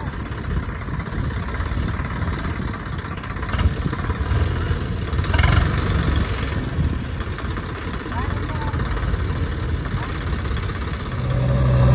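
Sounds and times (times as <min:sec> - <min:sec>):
engine clatter: 0:00.0 - 0:11.9
tractor diesel engine idling: 0:00.0 - 0:11.9.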